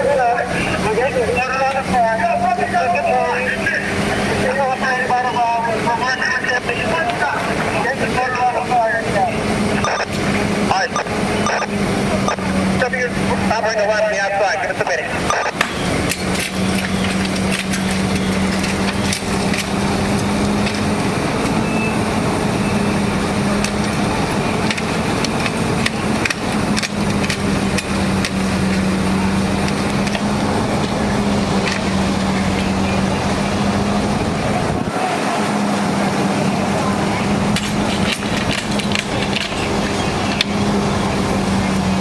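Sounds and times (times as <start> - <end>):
burning house crackling and popping: 0.0 - 42.0
fire truck engine humming: 0.0 - 42.0.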